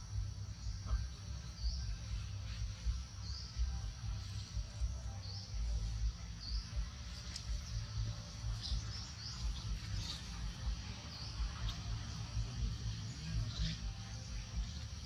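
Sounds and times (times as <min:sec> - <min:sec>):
low rumble: 0:00.0 - 0:15.0
steady high-pitched hiss: 0:00.0 - 0:15.0.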